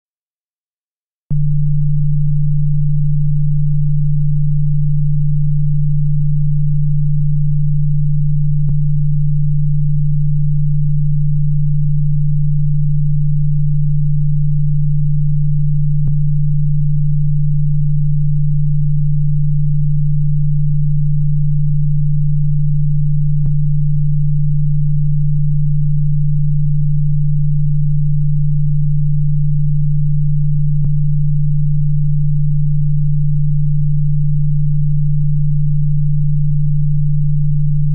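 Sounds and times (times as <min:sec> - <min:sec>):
deep electronic bass hum: 0:01.3 - 0:37.9.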